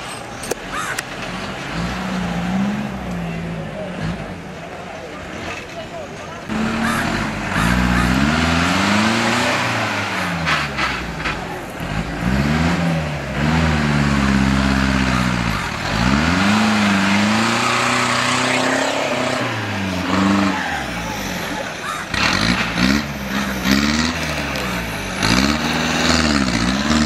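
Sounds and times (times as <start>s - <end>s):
jeep engine revving: 0.6s - 27.0s.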